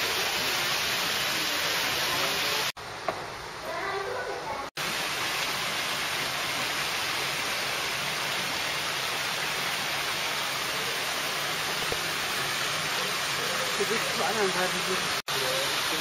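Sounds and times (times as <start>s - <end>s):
waterfall spilling over rocks: 0.0s - 2.8s, 3.7s - 16.0s.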